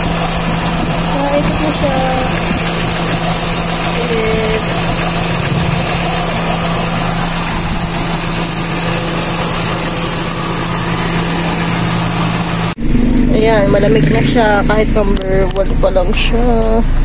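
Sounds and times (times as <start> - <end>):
car engine idling: 0.0 - 17.0
electric radiator fan running: 0.0 - 17.0.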